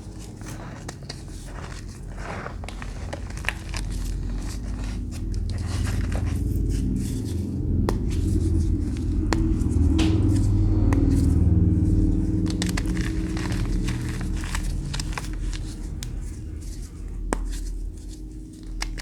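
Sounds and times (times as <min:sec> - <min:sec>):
crunchy material crinkling: 0:00.0 - 0:19.0
low rumble: 0:00.1 - 0:18.7.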